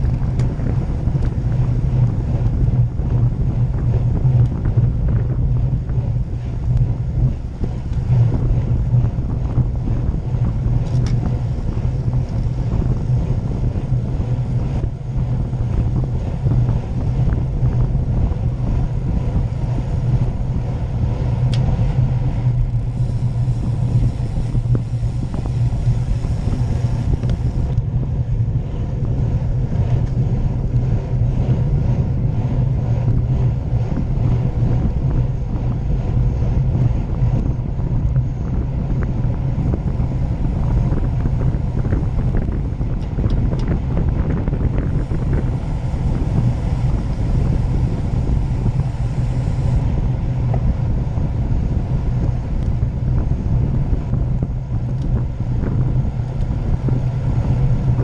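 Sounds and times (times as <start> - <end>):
tyres rumbling on road: 0.0 - 58.0
wind rushing on microphone: 0.0 - 58.0.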